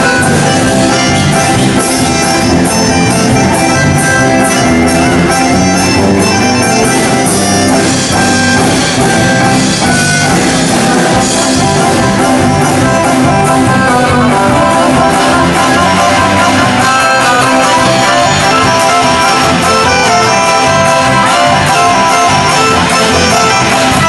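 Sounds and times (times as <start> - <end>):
band music with plucked strings: 0.0 - 24.0
drum beat: 0.0 - 24.0.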